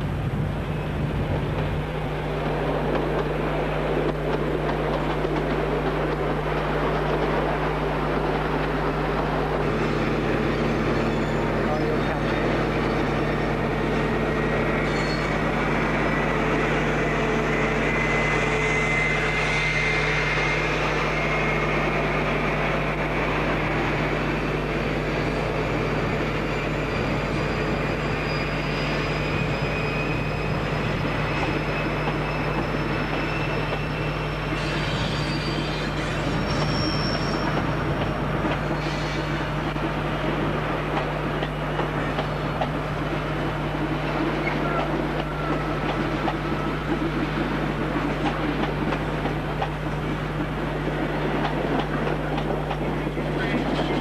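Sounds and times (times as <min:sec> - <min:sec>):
train running noise: 0:00.0 - 0:54.0
train wheel squeals: 0:03.0 - 0:54.0.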